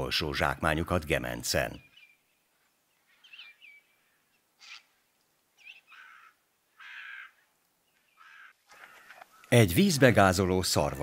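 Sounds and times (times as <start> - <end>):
birds croaking calls: 1.0 - 9.9.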